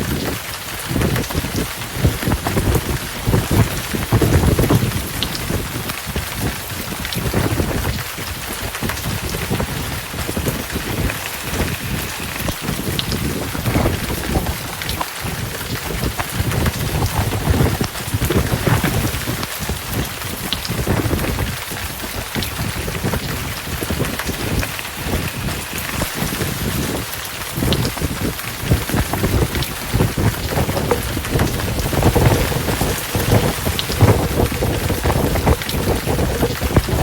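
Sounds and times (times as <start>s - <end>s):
heavy rain pouring: 0.0s - 37.0s
thunder rumbling: 0.0s - 37.0s.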